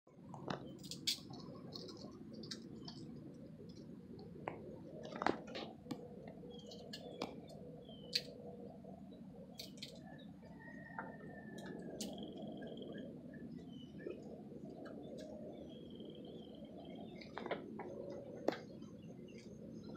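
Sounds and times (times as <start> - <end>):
steady outdoor hum: 0.1 - 19.9.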